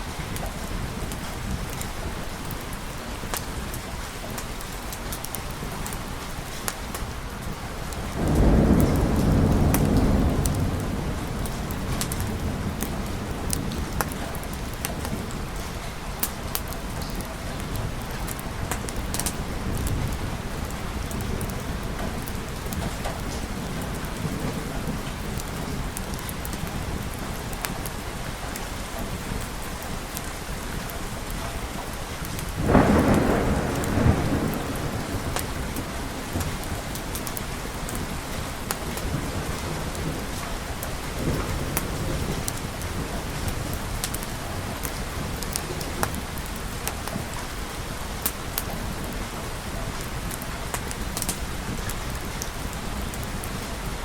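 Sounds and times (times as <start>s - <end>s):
drips and crackles: 0.0s - 54.0s
steady rain: 0.0s - 54.0s
thunder rumbling: 5.6s - 54.0s.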